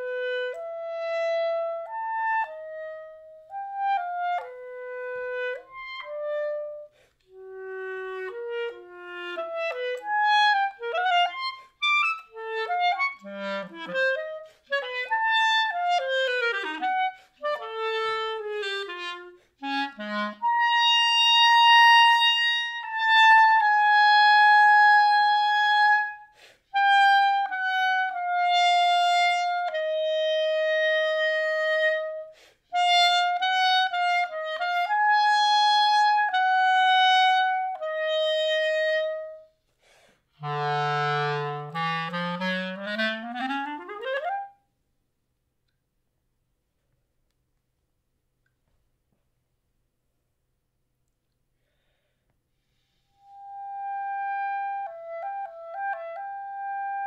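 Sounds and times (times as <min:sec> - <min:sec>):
solo clarinet: 0:00.0 - 0:44.7, 0:52.7 - 0:57.0.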